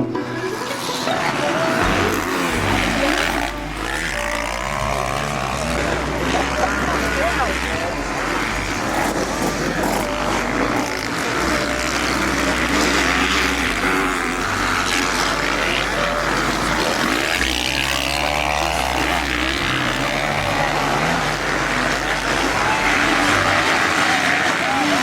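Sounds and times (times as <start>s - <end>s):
motorcycle engines revving: 0.0s - 25.0s
music with steady bass line: 0.0s - 25.0s.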